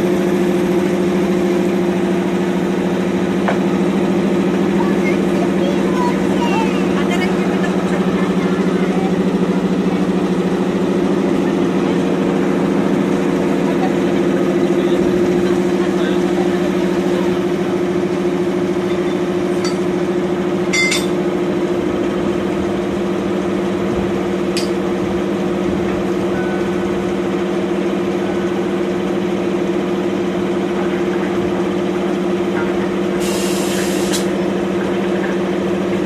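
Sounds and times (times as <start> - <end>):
diesel locomotive engine idling: 0.0 - 36.0.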